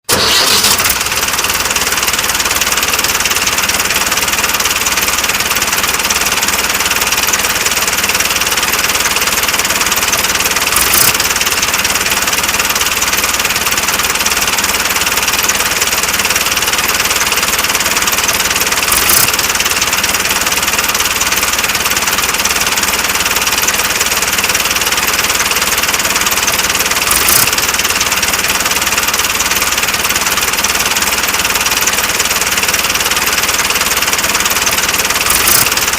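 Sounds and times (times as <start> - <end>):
model tractor engine running: 0.0 - 35.9.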